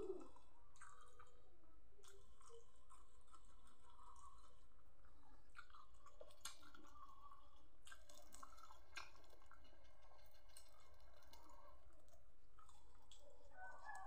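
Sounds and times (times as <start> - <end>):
person chewing food: 0.2 - 14.0.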